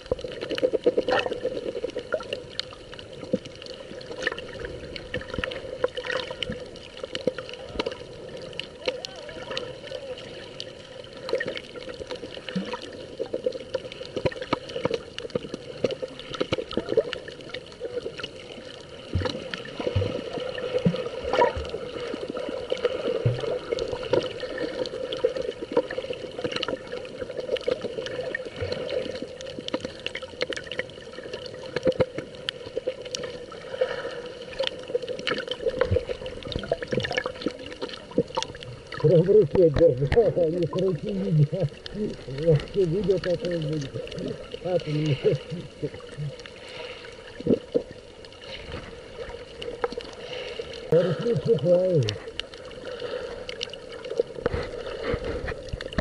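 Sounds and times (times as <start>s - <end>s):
muffled underwater wash: 0.0s - 56.0s
small underwater clicks and crackles: 0.0s - 56.0s.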